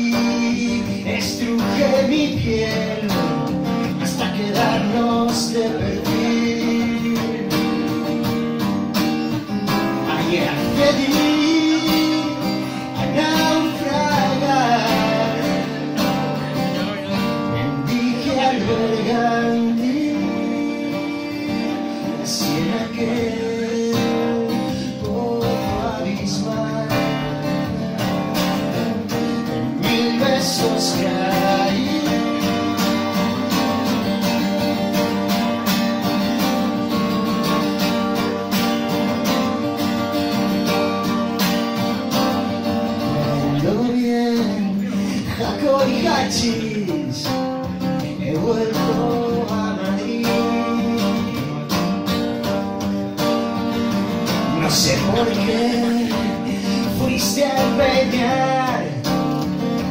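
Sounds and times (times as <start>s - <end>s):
acoustic guitar strummed: 0.0s - 59.9s.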